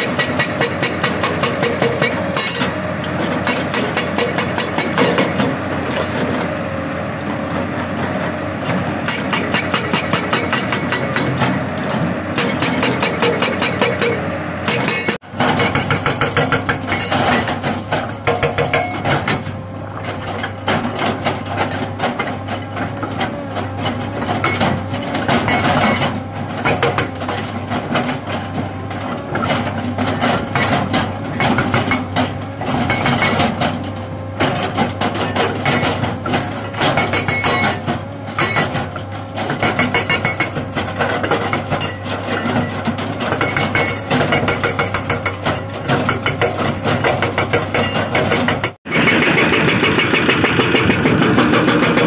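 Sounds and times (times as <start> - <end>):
hydraulic breaker hammering rock: 0.0 - 6.5, 8.6 - 52.0
excavator engine running: 0.0 - 52.0.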